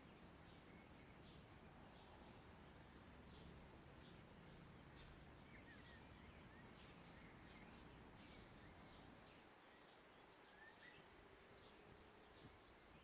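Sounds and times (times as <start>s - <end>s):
faint songbird chirps: 0.0s - 13.0s
low background hiss: 0.0s - 13.0s.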